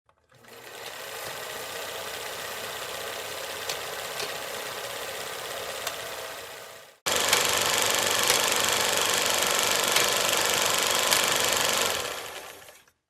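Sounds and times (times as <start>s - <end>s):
mechanical running noise with rattle: 0.3s - 12.9s.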